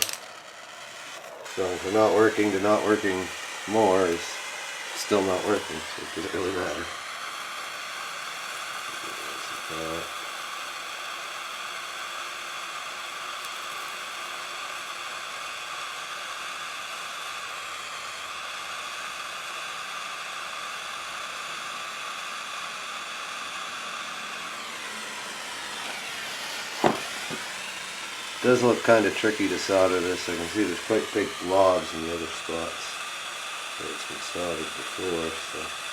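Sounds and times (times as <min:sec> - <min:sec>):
torch flame hissing: 0:00.0 - 0:35.9.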